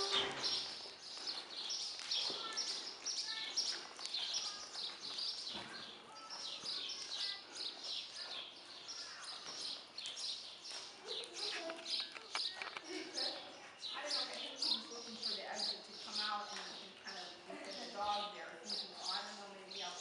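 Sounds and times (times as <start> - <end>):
small birds twittering: 0.0 - 20.0.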